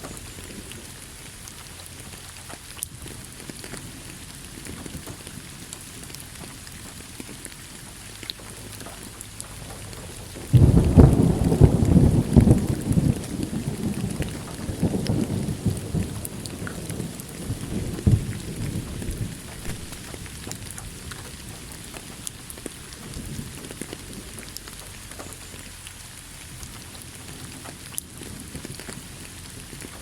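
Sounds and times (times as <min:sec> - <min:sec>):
rain drop ticks: 0:00.0 - 0:30.0
steady rain: 0:00.0 - 0:30.0
thunder rumbling: 0:00.0 - 0:30.0.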